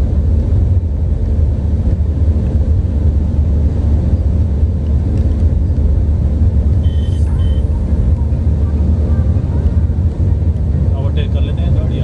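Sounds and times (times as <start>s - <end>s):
vehicle interior road rumble: 0.0s - 12.0s.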